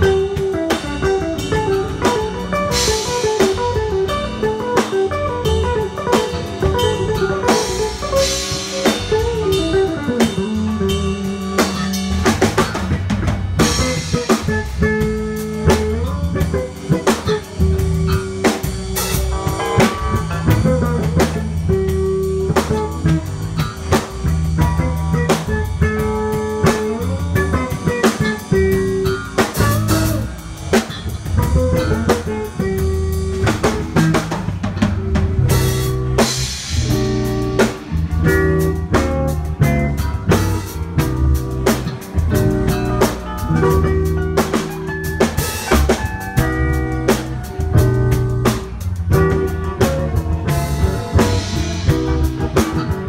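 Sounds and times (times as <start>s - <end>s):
bass guitar: 0.0s - 53.0s
drum kit beat: 0.0s - 53.0s
electric guitar: 0.0s - 53.0s.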